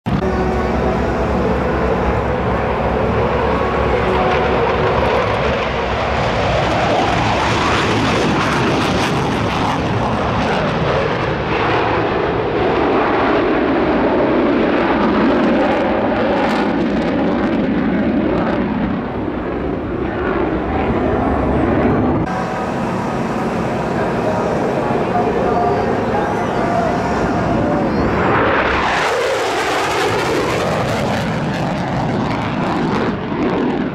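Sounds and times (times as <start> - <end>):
jet engines in afterburner: 0.0 - 33.9.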